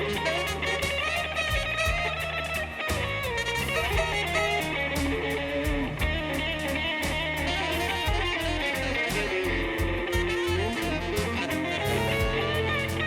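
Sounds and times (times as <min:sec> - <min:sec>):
blues band playing: 0:00.0 - 0:13.0
electric guitar lead line: 0:00.0 - 0:13.0.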